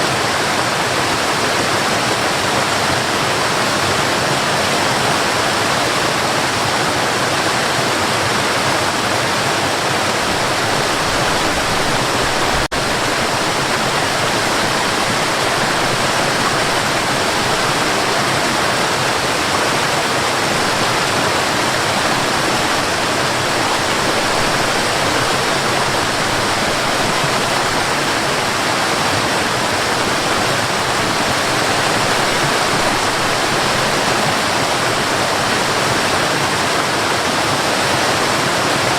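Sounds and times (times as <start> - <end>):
mountain river rushing: 0.0 - 38.9.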